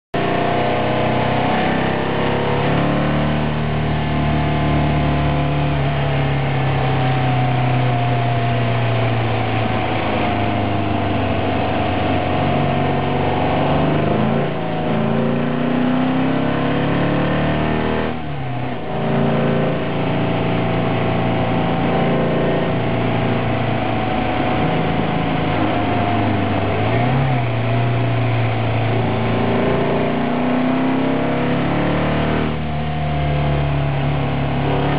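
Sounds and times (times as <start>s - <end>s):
race car engine revving: 0.2s - 34.9s.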